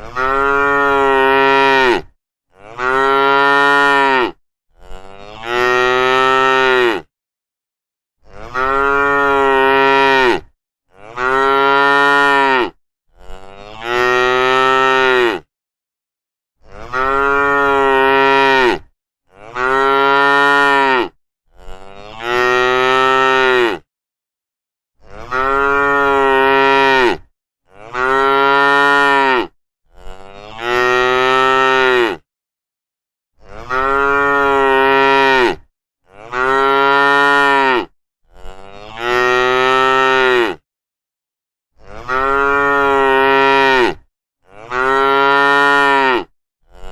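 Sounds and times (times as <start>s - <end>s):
cow mooing: 0.0s - 7.1s, 8.2s - 15.5s, 16.6s - 23.9s, 25.0s - 32.2s, 33.4s - 40.6s, 41.8s - 46.9s.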